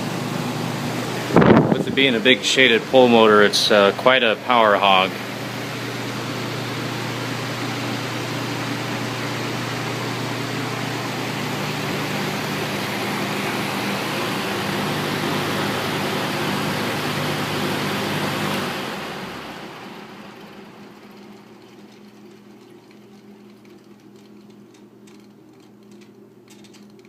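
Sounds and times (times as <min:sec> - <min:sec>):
fan air rushing: 0:00.0 - 0:27.0
low motor hum: 0:00.0 - 0:27.0.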